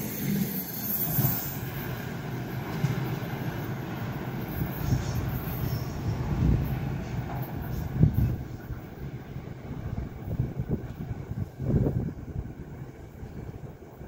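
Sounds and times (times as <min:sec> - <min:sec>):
train wagons rumbling over rails: 0:00.0 - 0:14.0.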